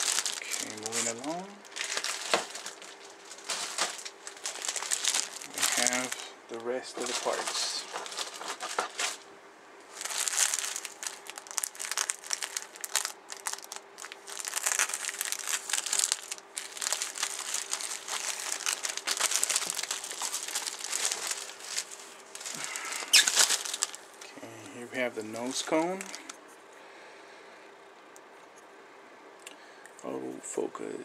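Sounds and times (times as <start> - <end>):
plastic bag crinkling: 0.0 - 9.3, 9.9 - 26.4.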